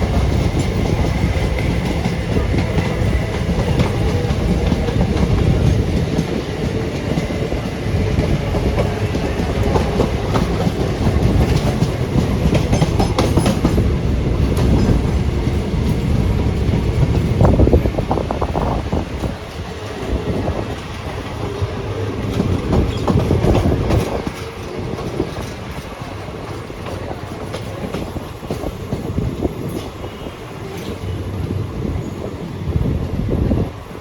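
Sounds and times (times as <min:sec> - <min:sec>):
wheels clacking over rail joints: 0:00.0 - 0:31.2
train wheels rumbling on rail: 0:00.0 - 0:34.0.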